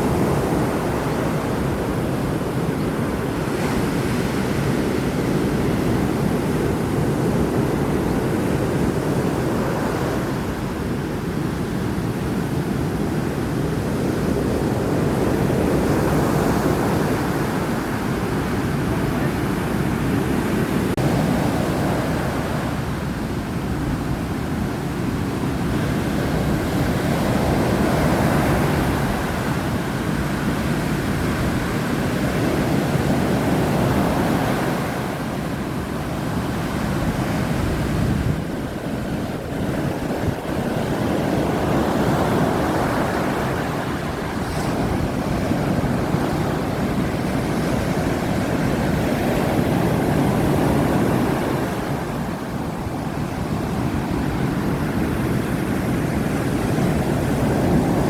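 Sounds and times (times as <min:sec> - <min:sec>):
surf breaking on a beach: 0:00.0 - 0:58.0
wind buffeting microphone: 0:00.0 - 0:58.0.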